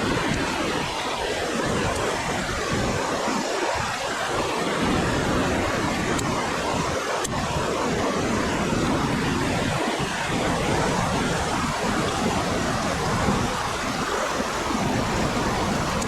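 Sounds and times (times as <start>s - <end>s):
whitewater rushing: 0.0s - 16.0s.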